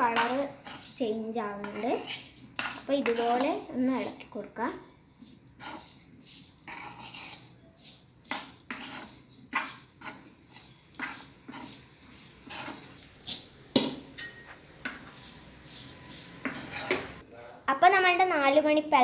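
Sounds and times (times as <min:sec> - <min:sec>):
metal spoon scraping a pan: 0:00.0 - 0:17.2.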